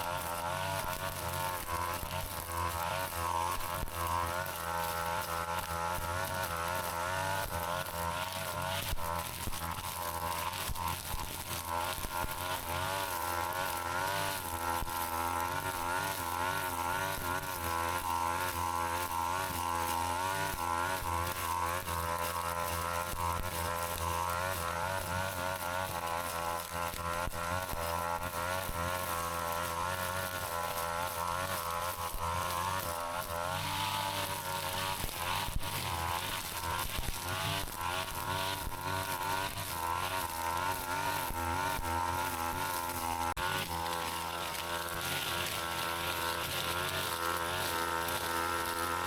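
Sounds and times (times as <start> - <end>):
brush cutter engine running: 0.0 - 49.0.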